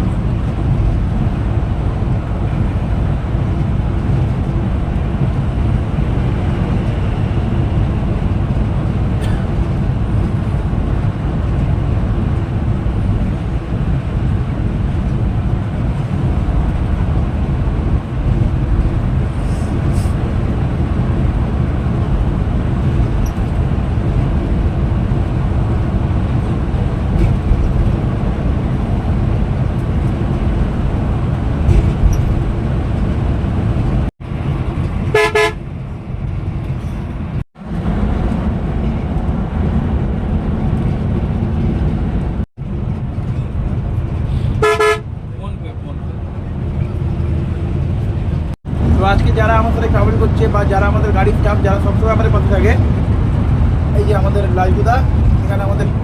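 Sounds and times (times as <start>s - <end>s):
coach engine and road rumble: 0.0s - 56.0s.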